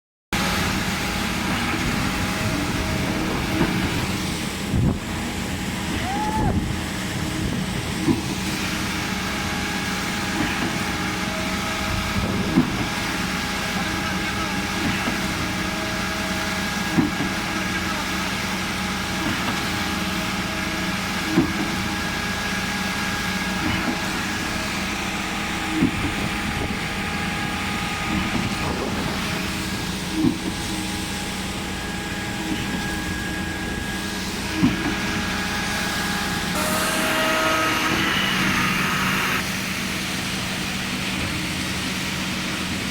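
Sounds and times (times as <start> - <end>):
concrete pump engine drone: 0.4 - 42.9.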